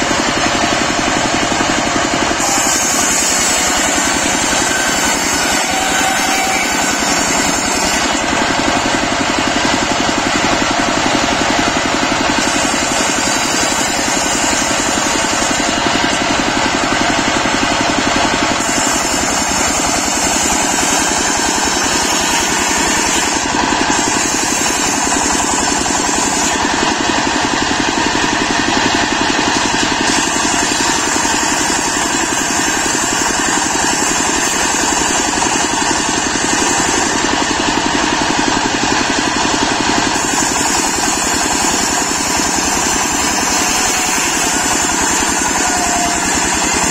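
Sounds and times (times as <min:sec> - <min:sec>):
circular saw cutting wood: 0:00.0 - 0:46.9
engine running steadily: 0:00.0 - 0:46.9.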